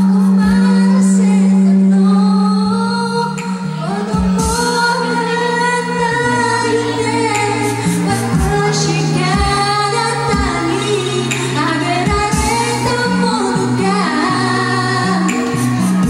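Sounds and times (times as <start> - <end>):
backing music with bass and drums: 0.0 - 16.0
woman singing pop ballad: 0.0 - 16.0.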